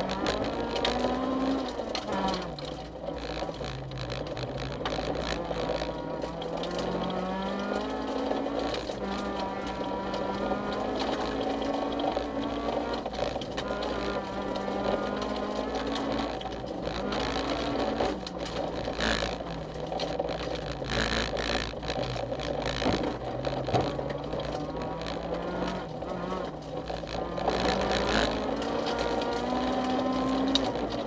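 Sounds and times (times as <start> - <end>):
car engine revving: 0.0 - 31.0
gravel rattling under car: 0.0 - 31.0.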